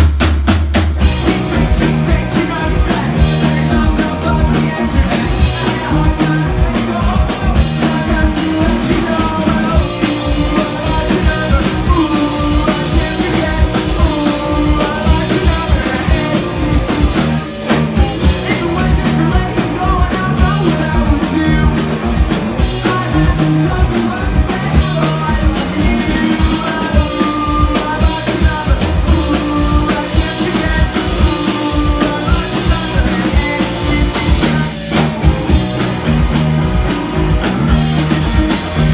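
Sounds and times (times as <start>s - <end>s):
drum kit beat: 0.0s - 38.9s
live rock band: 0.0s - 38.9s
person singing: 1.0s - 36.1s.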